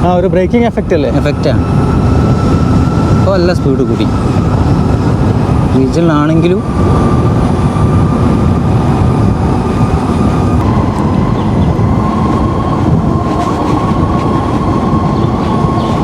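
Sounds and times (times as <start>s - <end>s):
thin steady whine: 0.0s - 16.0s
wind rumbling on microphone: 0.0s - 16.0s.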